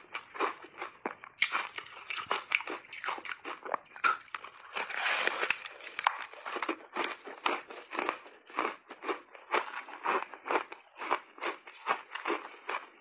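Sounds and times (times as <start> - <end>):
crunching bite: 0.0 - 13.0
crunchy chewing of ice: 0.0 - 13.0.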